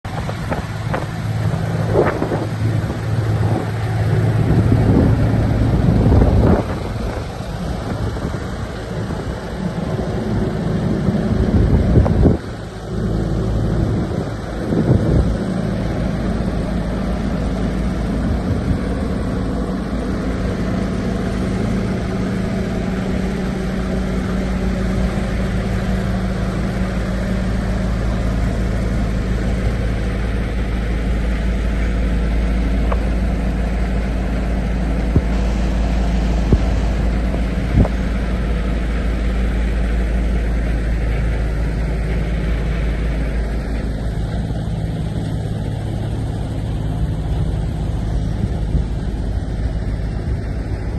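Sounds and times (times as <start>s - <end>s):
diesel truck engine idling: 0.0s - 50.9s
wind buffeting microphone: 0.0s - 50.9s.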